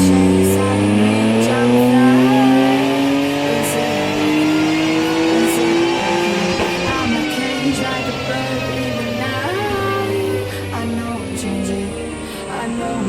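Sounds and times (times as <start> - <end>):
engine revving on dyno: 0.0 - 12.3.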